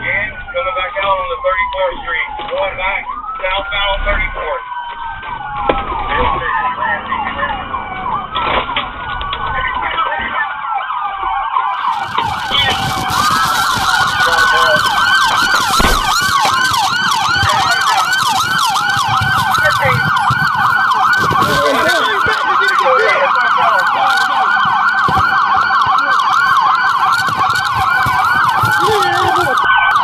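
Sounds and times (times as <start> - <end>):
police sirens wailing: 0.0 - 30.0
police sirens yelping: 0.0 - 30.0.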